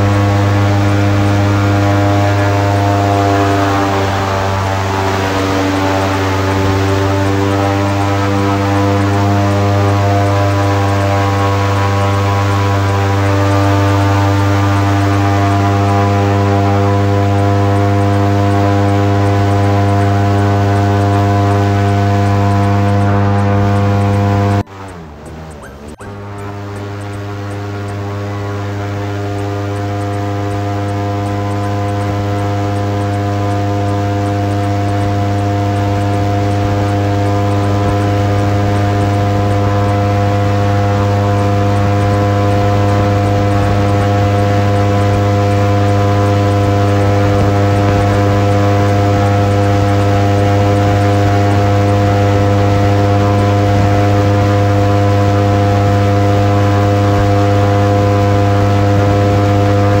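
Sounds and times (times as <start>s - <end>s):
airboat engine droning: 0.0s - 60.0s.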